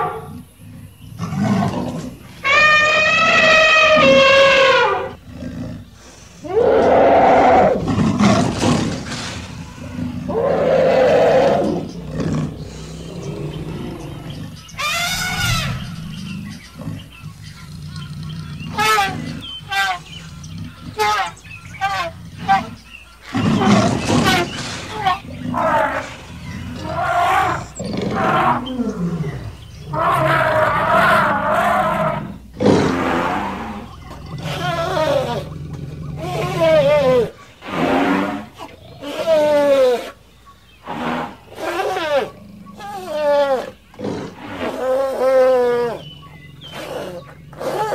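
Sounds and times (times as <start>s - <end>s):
lion roaring: 0.0s - 40.2s, 40.8s - 47.9s
elephant bellowing: 1.2s - 40.2s, 40.8s - 47.9s.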